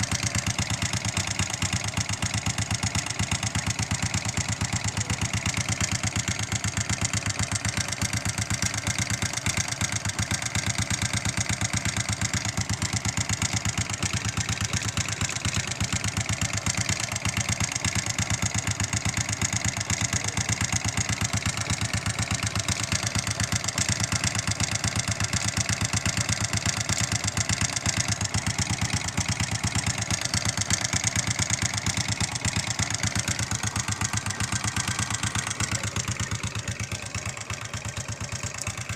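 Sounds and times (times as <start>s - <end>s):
engine knocking: 0.0s - 38.9s
motorcycle engine idling: 0.0s - 38.9s.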